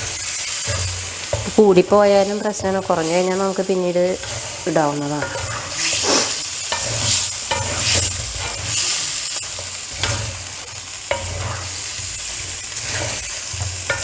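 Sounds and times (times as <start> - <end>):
food sizzling: 0.0 - 14.0
spatula scraping pan: 0.0 - 14.0.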